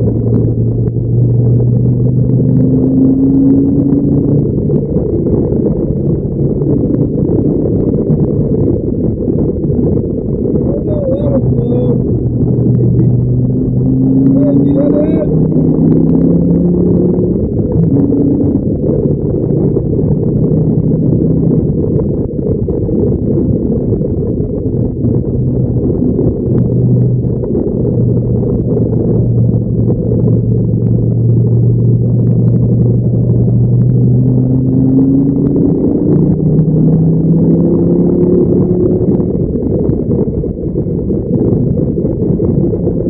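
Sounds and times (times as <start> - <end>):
race car engine: 0.0 - 8.7, 10.4 - 22.0, 23.7 - 43.0.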